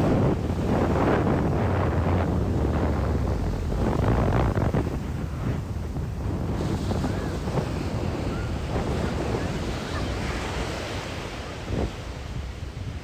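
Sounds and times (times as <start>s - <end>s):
sea surf washing onto beach: 0.0s - 13.0s
wind buffeting microphone: 0.0s - 13.0s.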